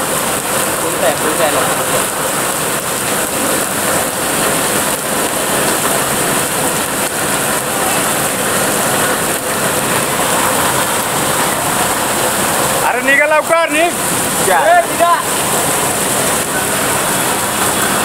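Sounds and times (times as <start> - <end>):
runoff water pouring: 0.0 - 18.0
steady rain downpour: 0.0 - 18.0.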